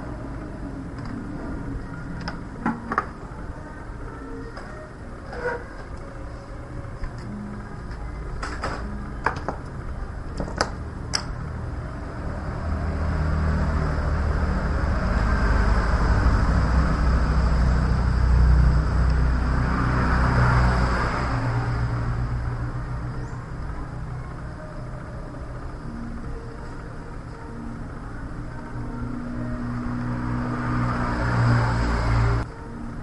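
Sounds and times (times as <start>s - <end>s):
low engine-like rumble: 0.0s - 33.0s.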